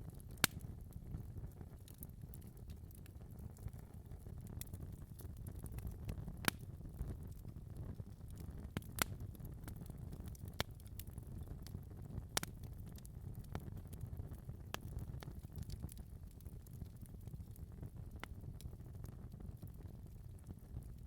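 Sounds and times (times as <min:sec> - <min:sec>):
wood fire burning: 0:00.0 - 0:21.0.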